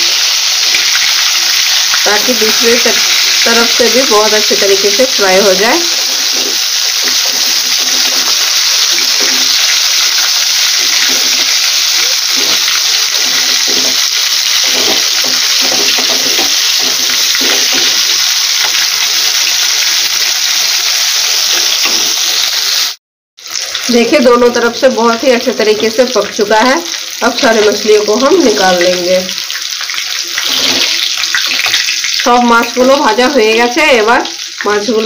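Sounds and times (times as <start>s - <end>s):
fish sizzling in hot oil: 0.0s - 35.0s.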